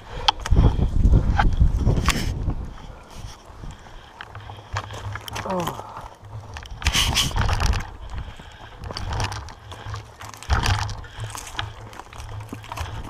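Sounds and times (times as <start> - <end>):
wind buffeting microphone: 0.0 - 13.0
bike rattling over rocks: 0.1 - 13.0.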